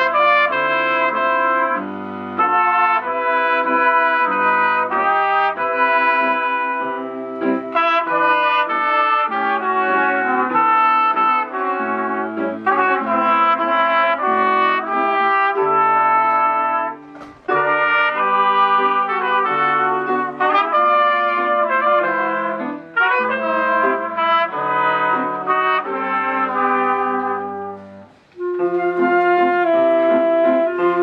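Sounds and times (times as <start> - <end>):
flute and clarinet playing: 0.0 - 31.0
trumpets playing: 0.0 - 31.0.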